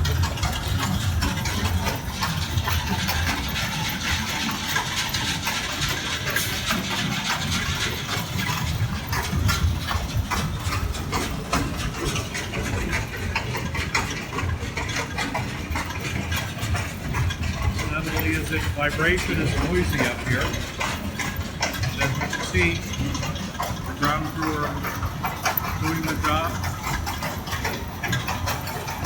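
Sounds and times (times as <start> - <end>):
beets rattling along belts: 0.0 - 29.0
conveyor machinery rumble: 0.0 - 29.0.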